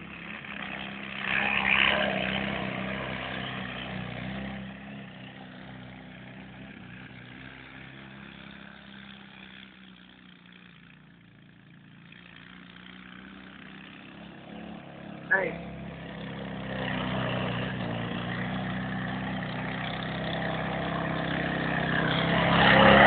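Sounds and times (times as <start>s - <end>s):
buggy engine running: 0.0s - 23.0s.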